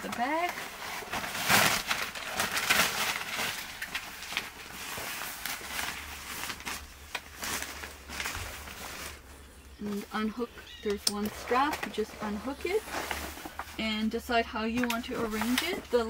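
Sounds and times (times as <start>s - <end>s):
fabric bag rustling: 0.0s - 10.4s, 11.2s - 16.0s.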